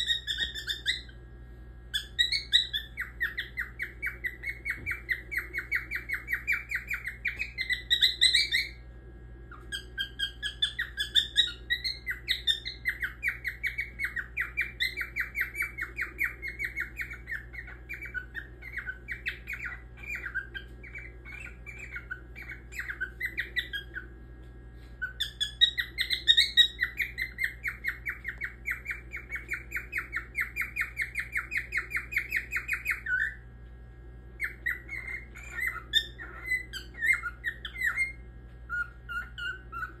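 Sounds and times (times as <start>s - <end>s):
cockatiel chirping and whistling: 0.0s - 1.2s, 1.9s - 8.8s, 9.5s - 24.1s, 24.9s - 33.4s, 34.4s - 40.0s.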